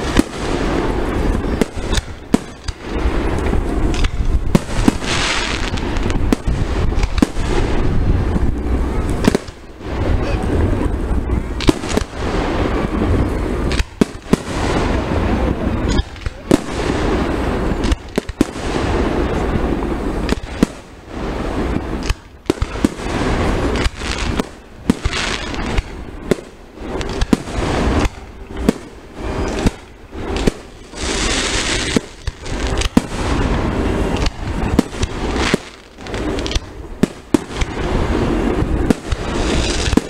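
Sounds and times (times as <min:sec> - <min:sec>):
fireworks bangs: 0:00.0 - 0:40.0
fireworks crackling: 0:00.0 - 0:40.0.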